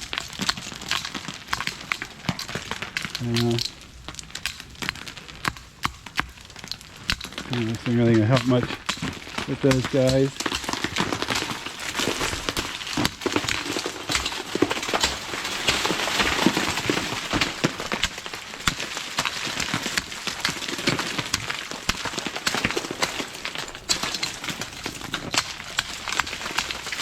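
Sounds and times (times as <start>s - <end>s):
ice crunching and crackling: 0.0s - 27.0s.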